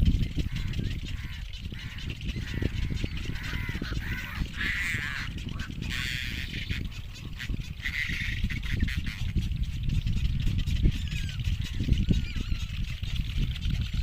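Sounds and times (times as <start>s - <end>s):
nestlings honking calls: 0.2s - 12.7s.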